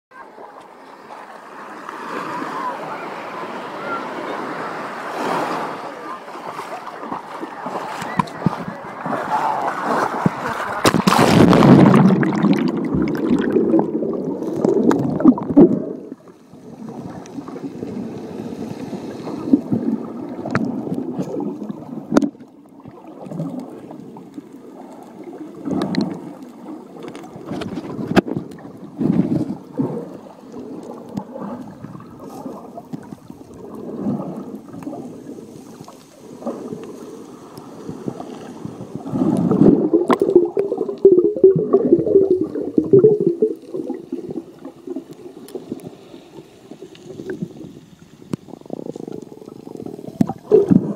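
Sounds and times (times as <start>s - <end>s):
muffled underwater water noise: 0.1s - 50.9s
seawater splashing: 2.0s - 50.9s.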